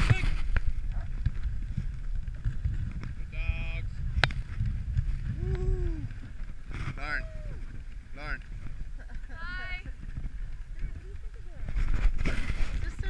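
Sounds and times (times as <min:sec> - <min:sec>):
sled runners rumbling on snow: 0:00.0 - 0:13.0.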